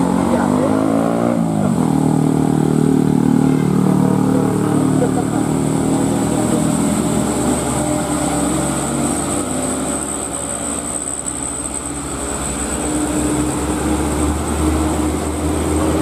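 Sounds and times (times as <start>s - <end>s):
diesel truck engine climbing: 0.0s - 16.0s.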